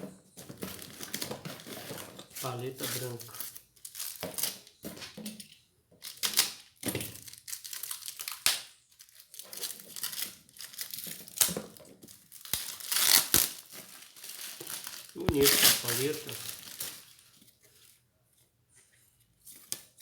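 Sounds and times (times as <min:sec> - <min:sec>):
packaging crinkling and rustling: 0:00.4 - 0:05.2, 0:06.0 - 0:18.0.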